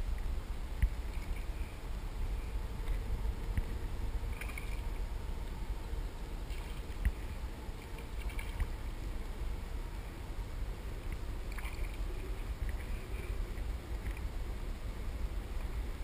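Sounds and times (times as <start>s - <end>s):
low steady rumble: 0.0s - 16.0s
water lapping against kayak hull: 0.8s - 5.6s, 6.4s - 14.4s.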